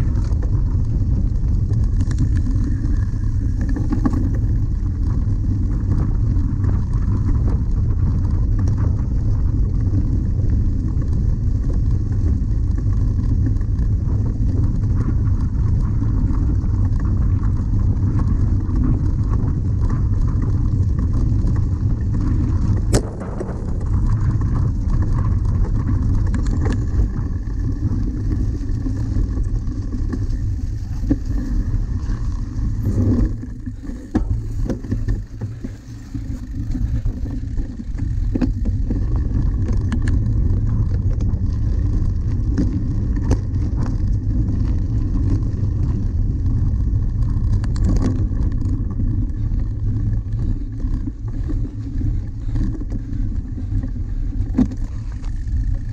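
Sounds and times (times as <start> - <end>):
bike riding over bumpy grass: 0.0 - 55.9
wind rumble: 0.0 - 55.9.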